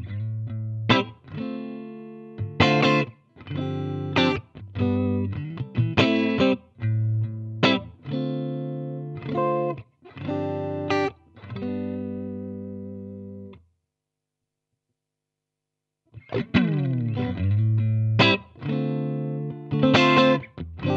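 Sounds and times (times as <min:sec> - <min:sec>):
electric guitar chords: 0:00.0 - 0:13.6, 0:16.2 - 0:20.9.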